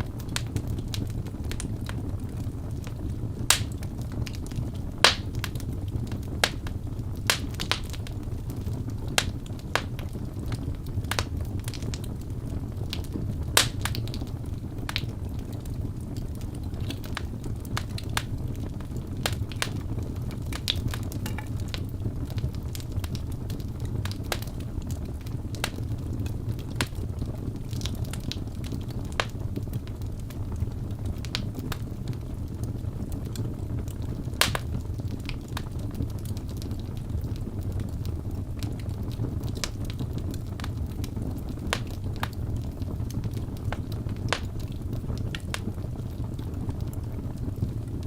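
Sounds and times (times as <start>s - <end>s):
fire low rumble: 0.0s - 48.0s
wood fire crackling and popping: 0.0s - 48.0s.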